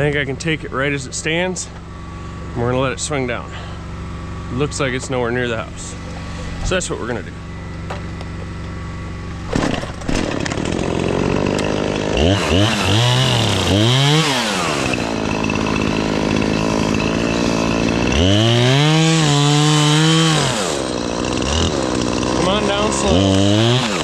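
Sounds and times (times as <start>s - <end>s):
chainsaw engine revving: 1.1s - 24.0s.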